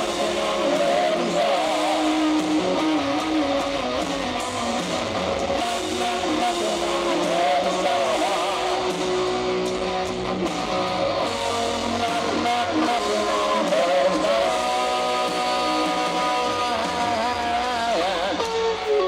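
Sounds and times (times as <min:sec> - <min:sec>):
electric guitar lead: 0:00.0 - 0:19.0
rock band backing: 0:00.0 - 0:19.0.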